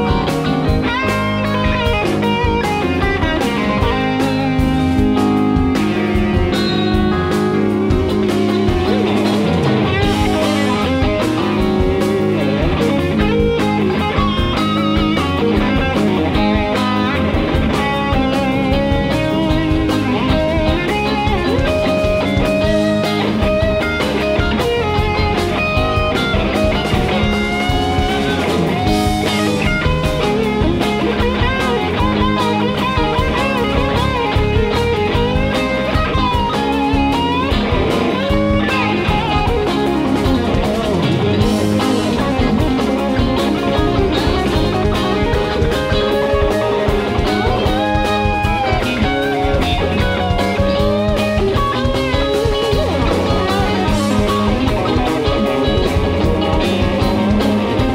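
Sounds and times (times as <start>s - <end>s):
electric guitar lead bending notes: 0.0s - 57.9s
live band music: 0.0s - 57.9s.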